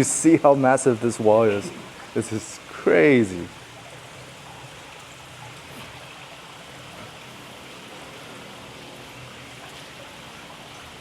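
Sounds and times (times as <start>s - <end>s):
running water trickling and splashing: 0.0s - 11.0s.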